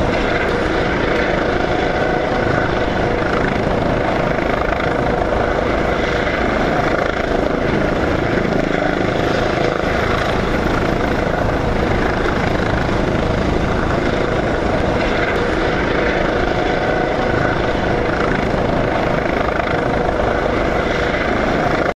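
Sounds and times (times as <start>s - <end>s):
drone propellers whirring: 0.0s - 21.9s.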